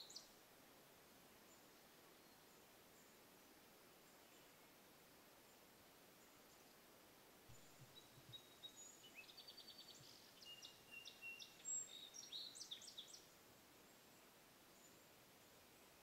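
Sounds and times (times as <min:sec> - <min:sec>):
songbirds singing faintly: 0:00.0 - 0:16.0.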